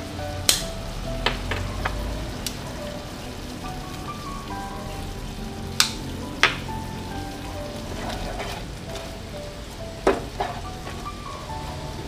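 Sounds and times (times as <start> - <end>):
fish sizzling in a pan: 0.0 - 12.0
soft background music: 0.0 - 12.0.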